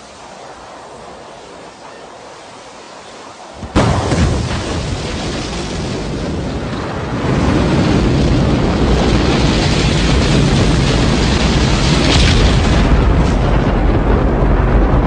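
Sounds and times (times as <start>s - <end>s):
rocket engine roar: 0.0s - 15.0s.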